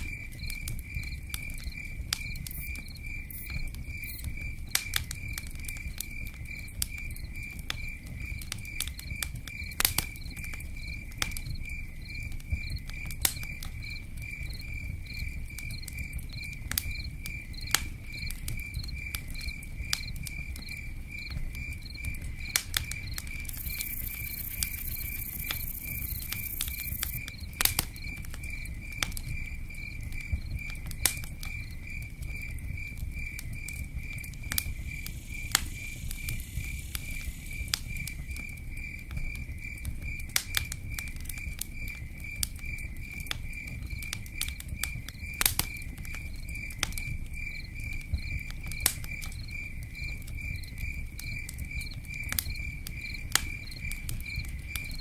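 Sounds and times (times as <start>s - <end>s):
campfire crackling: 0.0s - 55.0s
cricket chirping: 0.0s - 55.0s.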